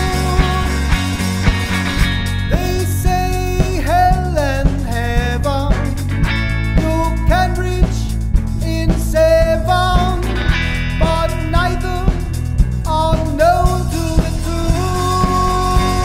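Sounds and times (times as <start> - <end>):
melodic lead line sliding: 0.0 - 16.0
rock band playing: 0.0 - 16.0.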